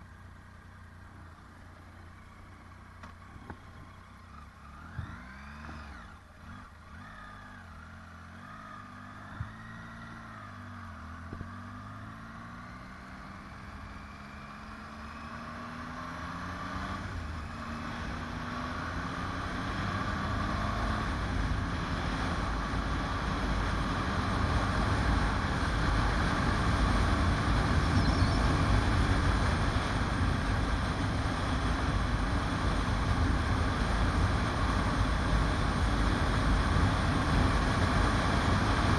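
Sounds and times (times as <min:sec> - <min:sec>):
motorcycle engine changing gears: 0:03.0 - 0:38.9.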